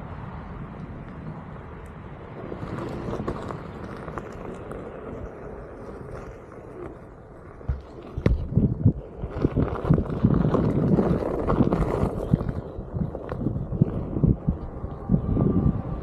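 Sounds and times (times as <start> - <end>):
wheel rumbling on trail: 1.1 - 16.0
small crackles: 1.8 - 15.0.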